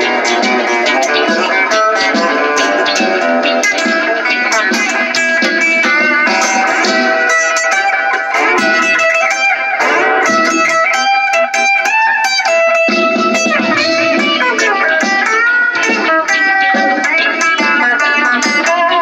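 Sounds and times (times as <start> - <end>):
electric guitar blues: 0.0 - 19.0.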